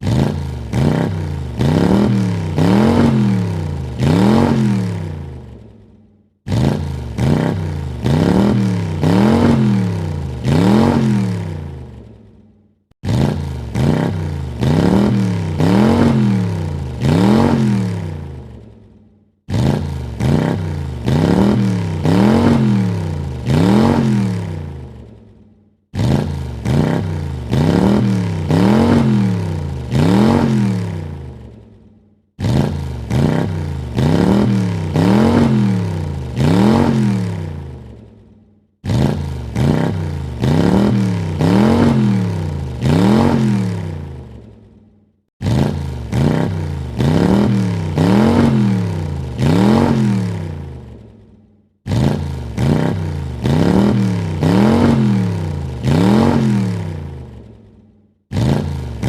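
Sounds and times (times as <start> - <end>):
car engine revving: 0.0 - 5.7, 6.5 - 12.1, 13.0 - 18.7, 19.5 - 25.2, 25.9 - 31.6, 32.4 - 38.0, 38.8 - 44.6, 45.4 - 51.1, 51.9 - 57.5, 58.3 - 59.0.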